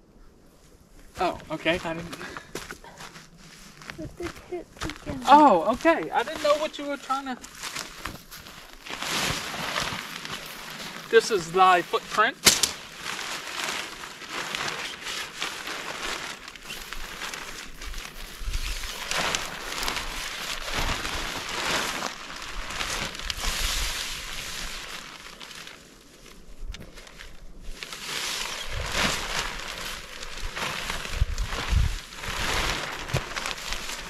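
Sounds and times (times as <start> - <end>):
fabric rustling and crinkling: 0.7 - 34.0.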